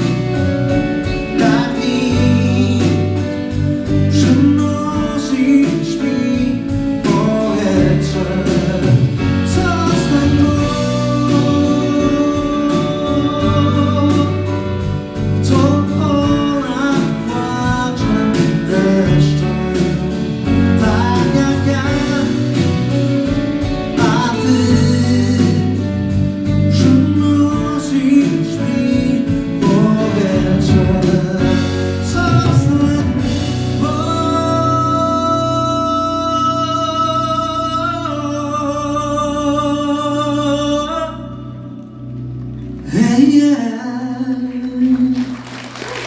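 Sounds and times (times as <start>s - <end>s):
person singing: 0.0s - 42.1s, 42.8s - 46.0s
pop band playing a ballad: 0.0s - 46.0s.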